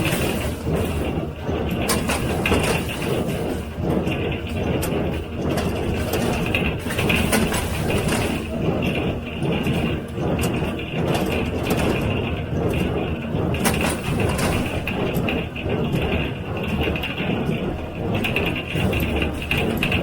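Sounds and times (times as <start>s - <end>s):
baler mechanical drone: 0.0s - 20.0s.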